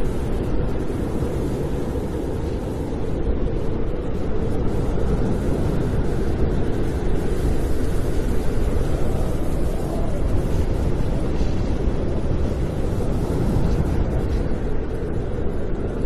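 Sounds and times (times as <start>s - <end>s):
snowstorm wind blowing: 0.0s - 16.0s.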